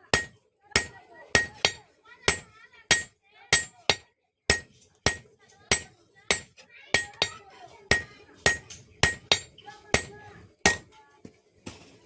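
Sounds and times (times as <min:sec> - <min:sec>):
hammer striking steel on anvil: 0:00.0 - 0:10.9.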